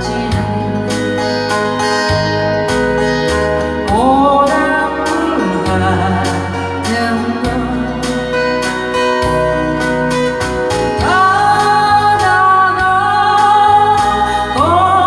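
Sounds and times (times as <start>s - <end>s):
woman singing a slow ballad: 0.0s - 2.4s, 3.1s - 15.0s
keyboard guitar and beat backing: 0.0s - 15.0s.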